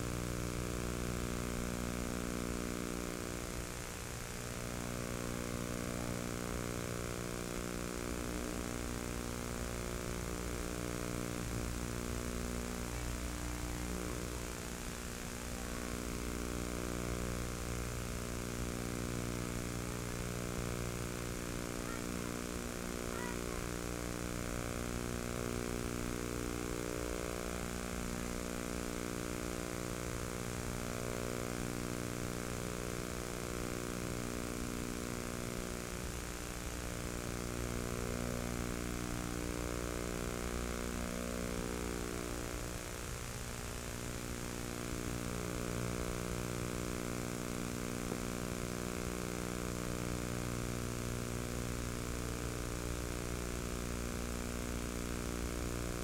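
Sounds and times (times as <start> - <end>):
constant hiss: 0.0 - 56.0
steady low hum: 0.0 - 56.0.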